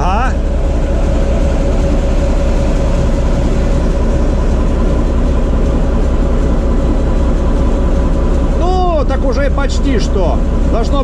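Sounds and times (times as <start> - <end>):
diesel engine running at high revs: 0.0 - 11.0
faint steady whine: 0.0 - 11.0.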